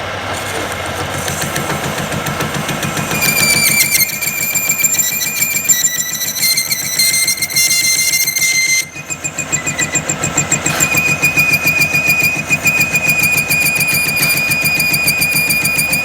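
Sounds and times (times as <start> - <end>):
machine running with high whine: 0.0 - 16.0.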